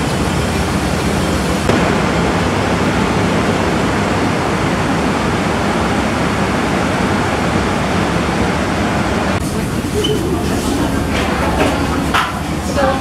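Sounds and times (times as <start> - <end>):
factory machinery din: 0.0 - 13.0.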